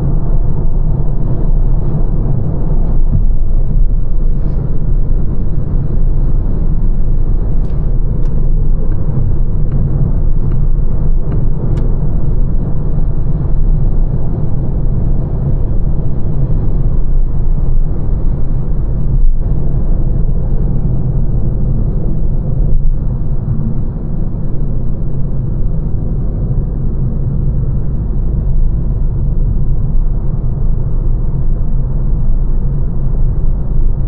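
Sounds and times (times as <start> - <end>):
car road and tyre rumble: 0.0 - 34.0.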